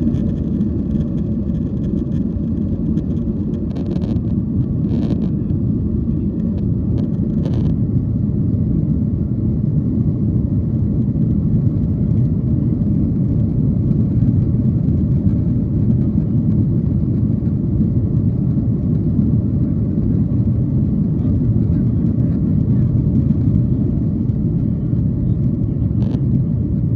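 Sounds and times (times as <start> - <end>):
jet engine rumble in cabin: 0.0 - 26.9.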